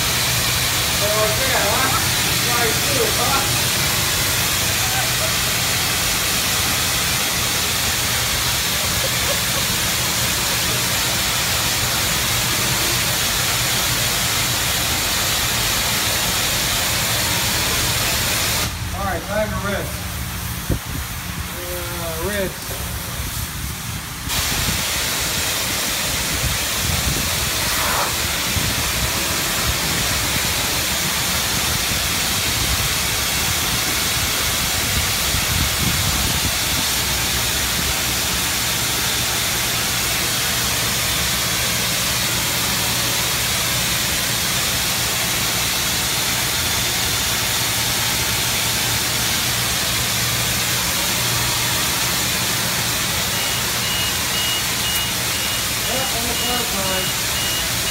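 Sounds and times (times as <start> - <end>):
high-pressure water jet hissing: 0.0 - 57.9.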